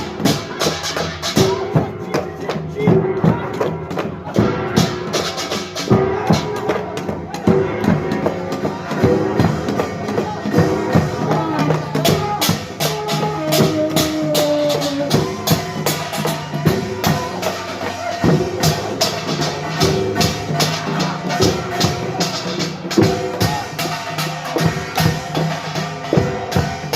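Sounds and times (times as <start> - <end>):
gongs and drums ensemble: 0.0 - 26.9.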